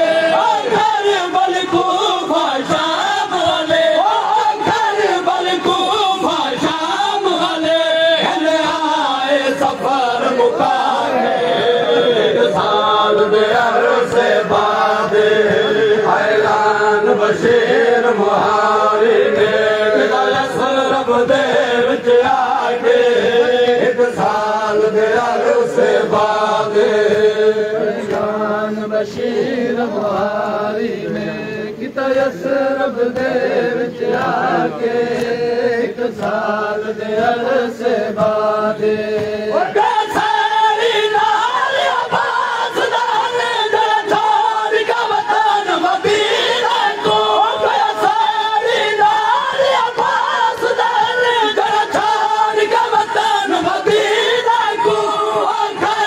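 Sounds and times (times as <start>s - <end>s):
men chanting together: 0.0s - 56.0s.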